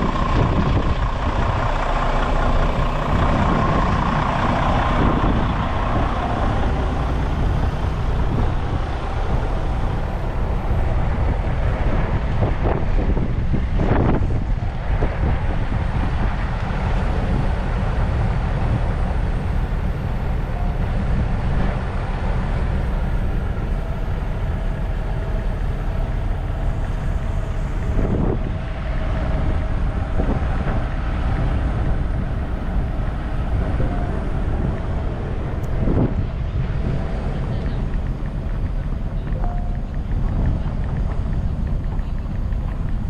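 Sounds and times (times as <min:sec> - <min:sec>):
low rumble of vehicles: 0:00.0 - 0:43.0
wind noise on microphone: 0:00.0 - 0:43.0.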